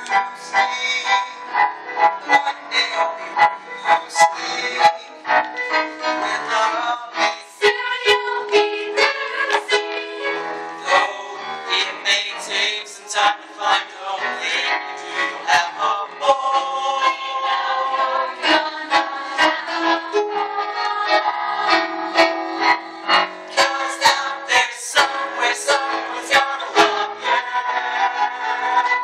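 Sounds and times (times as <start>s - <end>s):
instrumental stage musical song: 0.0s - 29.0s.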